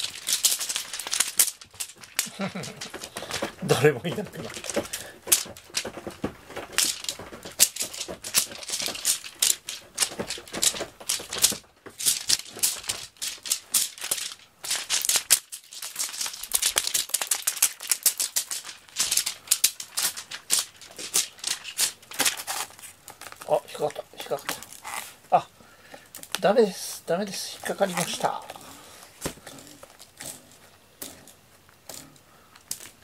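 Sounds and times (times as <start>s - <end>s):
crinkly plastic rustling: 0.0s - 33.0s.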